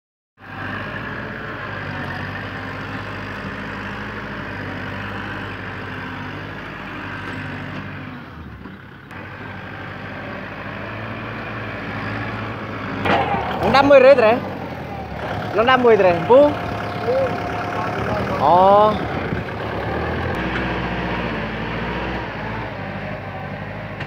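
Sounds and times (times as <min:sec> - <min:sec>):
tractor diesel engine running: 0:00.4 - 0:24.0.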